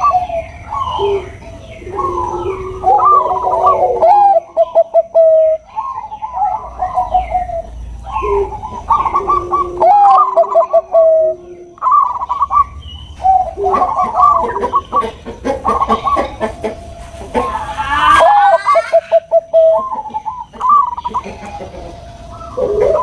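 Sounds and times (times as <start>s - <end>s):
doves cooing: 0.0s - 23.0s.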